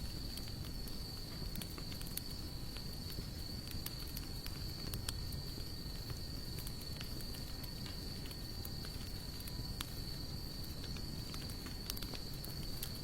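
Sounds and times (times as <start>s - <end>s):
low fire rumble: 0.0s - 13.0s
sharp fire pops: 0.0s - 13.0s
wood fire crackling: 0.0s - 13.0s.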